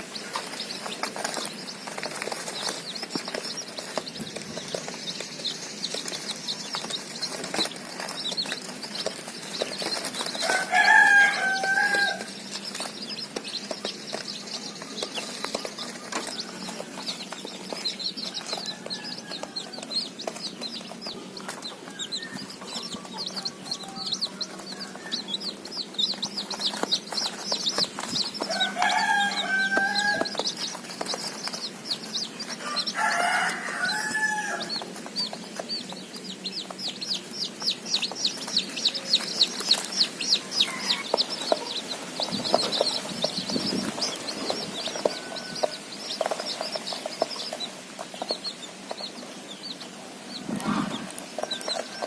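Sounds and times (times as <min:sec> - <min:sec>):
baby chicks peeping: 0:00.0 - 0:52.0.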